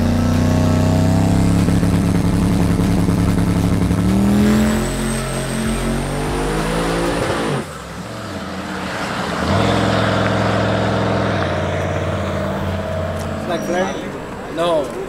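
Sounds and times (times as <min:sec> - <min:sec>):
high turbo whine: 0:00.0 - 0:15.0
loud steady engine drone: 0:00.0 - 0:15.0
truck engine at full throttle: 0:00.0 - 0:15.0.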